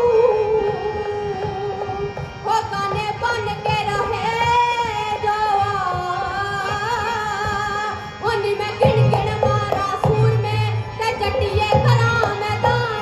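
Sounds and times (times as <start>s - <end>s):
woman singing folk song: 0.0s - 13.0s.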